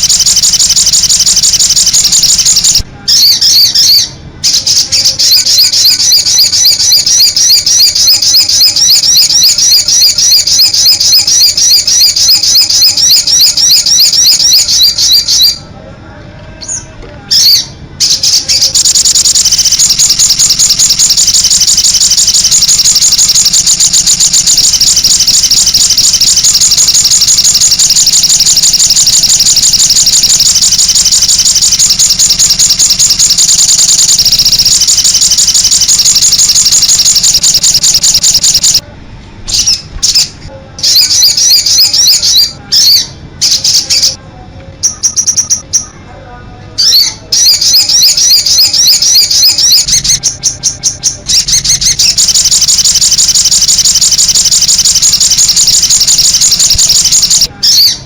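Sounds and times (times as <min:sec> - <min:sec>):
bird singing rapid high trill: 0:00.0 - 0:15.6, 0:16.6 - 0:38.8, 0:39.5 - 0:44.2, 0:44.8 - 0:46.0, 0:46.8 - 0:58.0.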